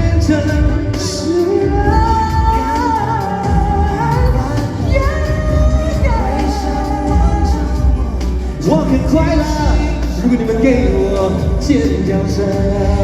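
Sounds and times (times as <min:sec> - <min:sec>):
band playing: 0:00.0 - 0:13.0
person singing long notes: 0:00.0 - 0:13.0.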